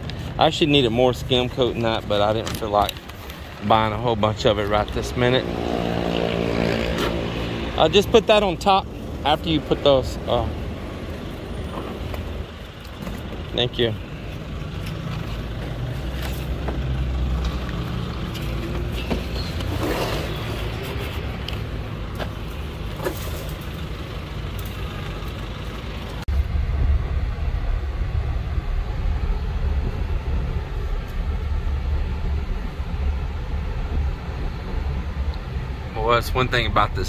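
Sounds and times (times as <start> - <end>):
truck engine and road rumble: 0.0 - 37.0
vehicle rumble with knocks: 0.0 - 37.0.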